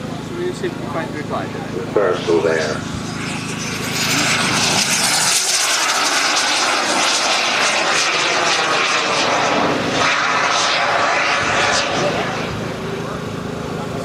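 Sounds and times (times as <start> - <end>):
model aircraft engine droning: 0.0 - 14.0.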